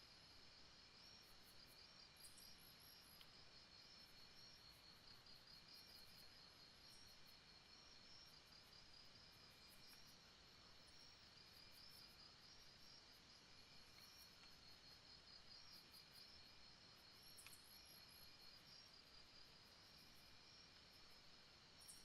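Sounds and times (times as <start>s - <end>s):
soft hiss: 0.0s - 22.0s
insects chirping in rapid pulses: 0.1s - 22.0s.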